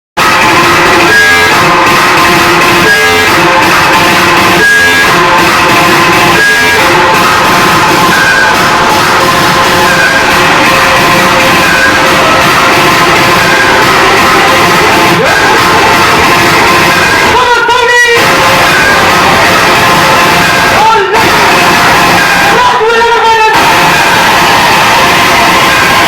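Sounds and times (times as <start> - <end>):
short high note: 0.2 - 22.6
loud music over sound system: 0.2 - 26.0.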